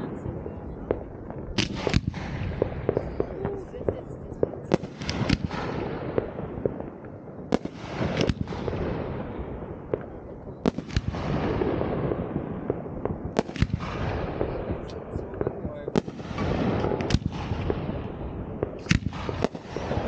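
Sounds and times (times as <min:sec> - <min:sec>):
fireworks bangs with crackle: 0:00.0 - 0:20.0
rumble of fireworks: 0:00.0 - 0:20.0.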